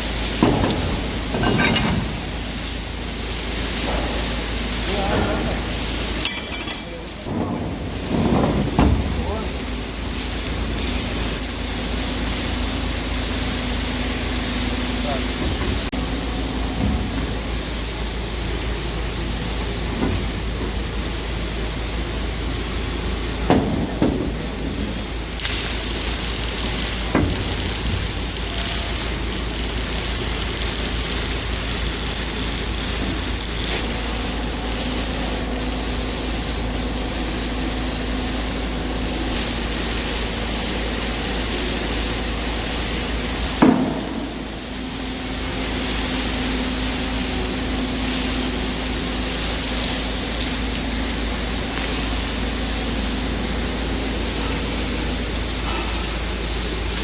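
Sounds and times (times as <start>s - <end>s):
workshop machine humming: 0.0s - 57.0s.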